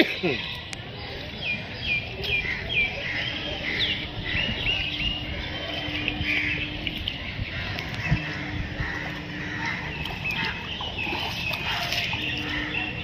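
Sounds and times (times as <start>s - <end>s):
birds chirping: 0.0s - 13.0s
constant low rumble: 2.2s - 13.0s.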